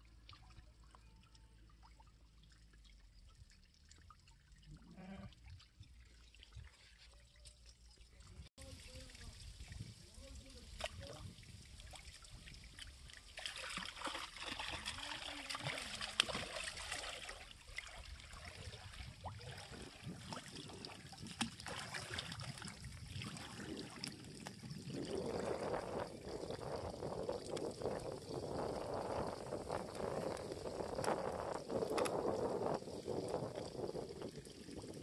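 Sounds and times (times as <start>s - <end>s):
shallow water splashing: 0.0s - 35.0s.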